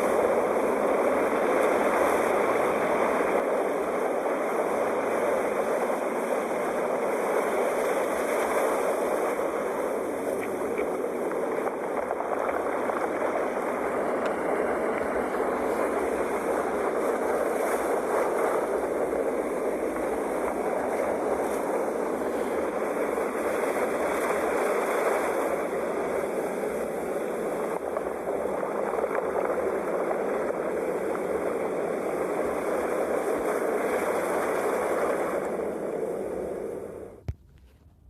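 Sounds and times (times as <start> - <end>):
sea waves washing on shore: 0.0 - 37.2.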